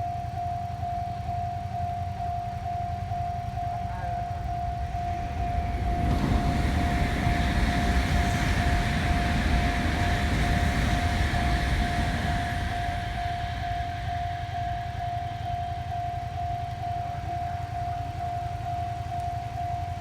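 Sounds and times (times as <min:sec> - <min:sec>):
level crossing warning bell: 0:00.0 - 0:20.0
passing train rumble: 0:00.2 - 0:20.0.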